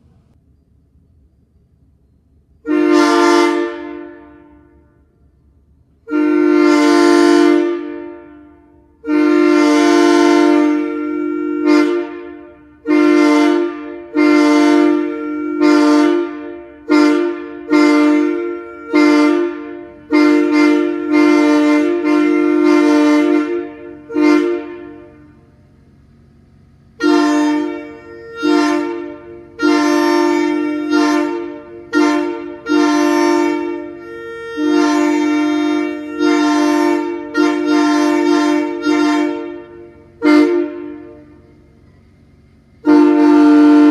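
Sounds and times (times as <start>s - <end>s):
locomotive air horn blasts: 2.6s - 43.9s.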